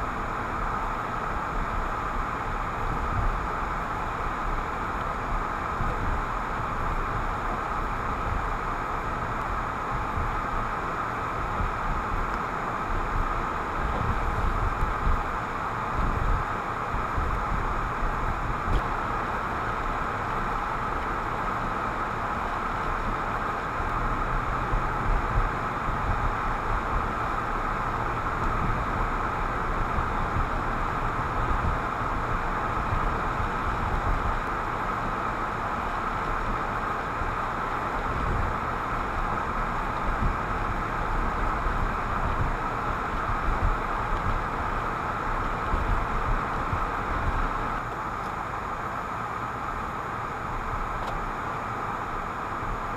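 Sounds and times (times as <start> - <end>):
car road and engine noise: 0.0 - 52.9
road bumps: 0.0 - 52.9.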